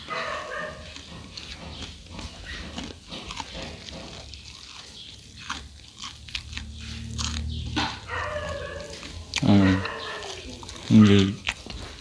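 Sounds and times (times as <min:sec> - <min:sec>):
person chewing crispy crackers: 0:00.0 - 0:12.0.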